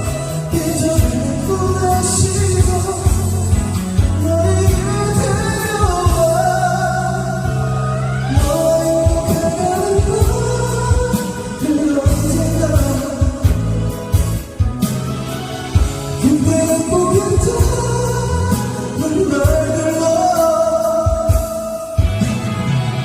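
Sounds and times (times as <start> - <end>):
pop ballad backing track: 0.0 - 23.0.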